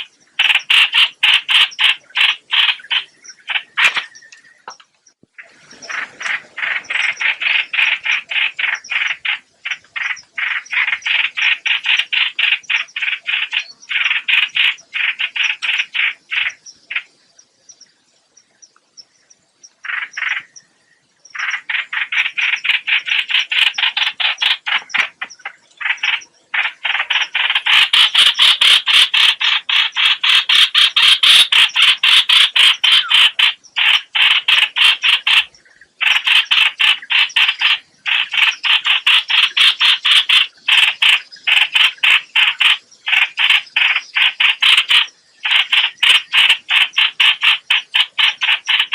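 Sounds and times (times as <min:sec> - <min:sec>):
bird calls of short repeated notes: 0:00.0 - 0:48.9.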